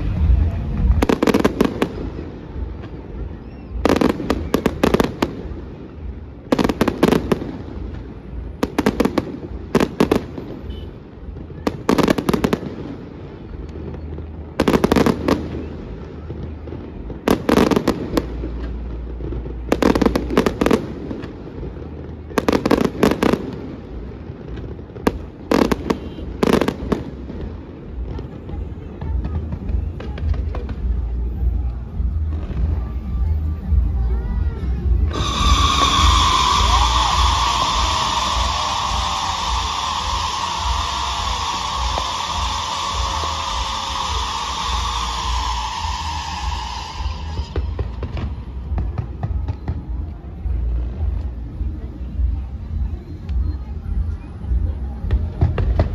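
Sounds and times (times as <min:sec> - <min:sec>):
fireworks bursting with sharp bangs: 0:00.0 - 0:55.9
steady low rumble: 0:00.0 - 0:55.9.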